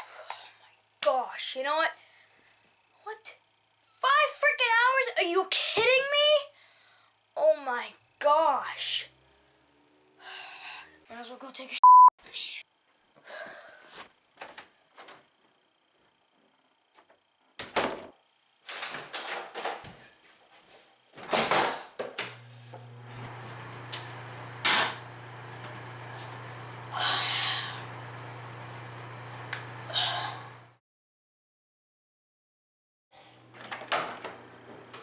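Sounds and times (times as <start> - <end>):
low hum with hiss: 0.0 - 30.8.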